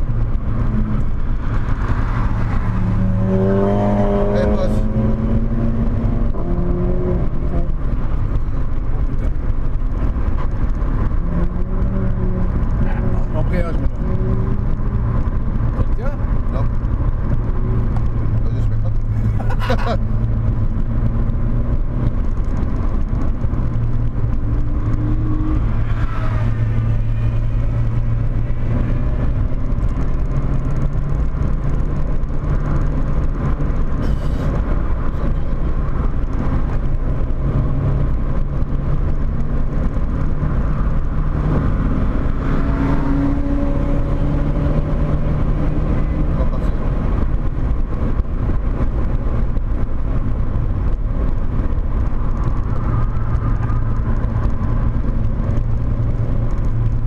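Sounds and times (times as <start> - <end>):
car engine under load: 0.0 - 57.0
road and wind noise: 0.0 - 57.0.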